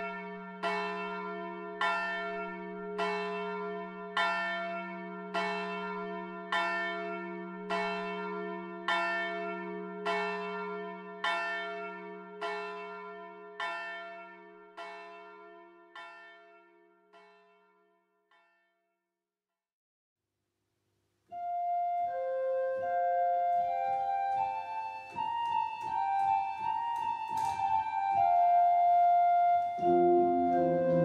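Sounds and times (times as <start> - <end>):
church bell tolling: 0.0 - 18.6, 22.7 - 31.0.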